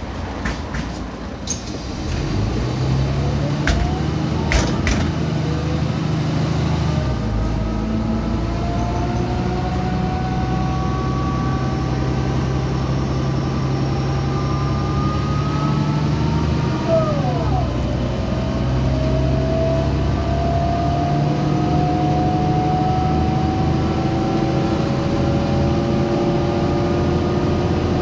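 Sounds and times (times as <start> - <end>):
bus engine humming: 0.0 - 28.0
rising whine: 1.7 - 28.0.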